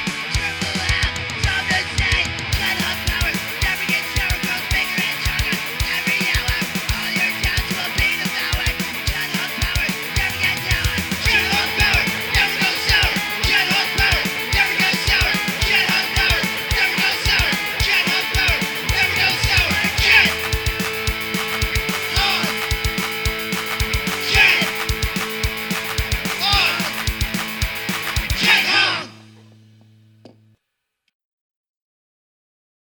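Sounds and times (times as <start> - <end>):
driving drum beat: 0.0 - 29.4
rock band playing: 0.0 - 29.7.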